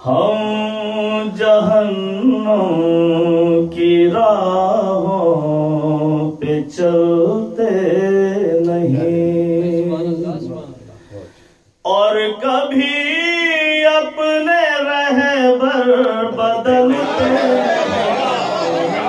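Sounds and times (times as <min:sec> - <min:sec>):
man chanting: 0:00.0 - 0:18.1.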